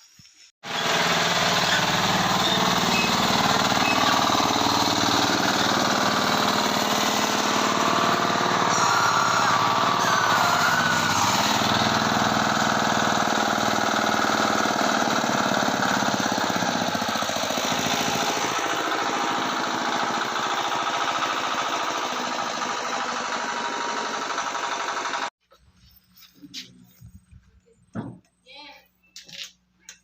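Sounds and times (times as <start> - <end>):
small engine running: 0.6 - 25.3.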